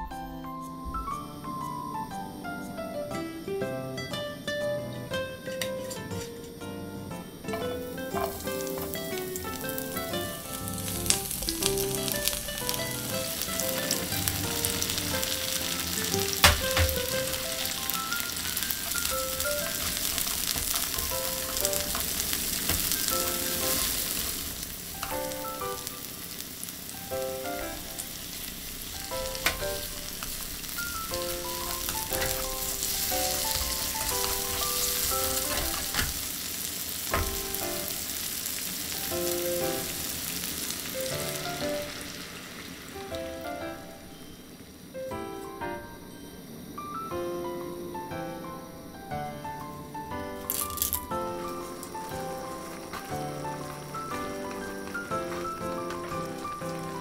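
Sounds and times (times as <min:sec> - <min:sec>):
soft melody: 0:00.0 - 0:36.3, 0:37.1 - 0:38.2, 0:38.9 - 0:42.3, 0:43.0 - 0:57.0
food sizzling in oil: 0:05.4 - 0:44.5, 0:49.4 - 0:57.0.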